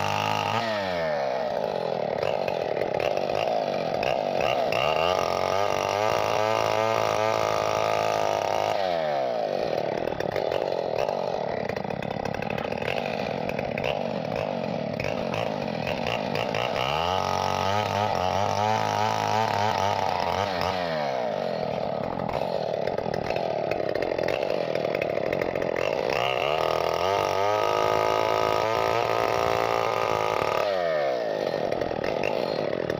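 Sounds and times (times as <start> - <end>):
two-stroke chainsaw running: 0.0 - 32.9.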